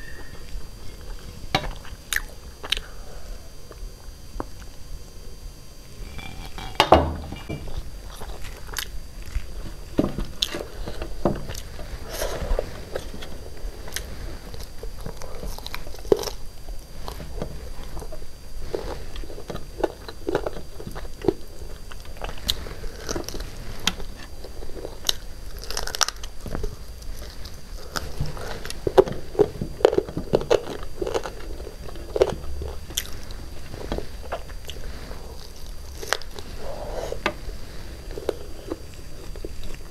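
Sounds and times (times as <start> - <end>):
person chewing food: 0.0 - 4.8, 5.9 - 39.9.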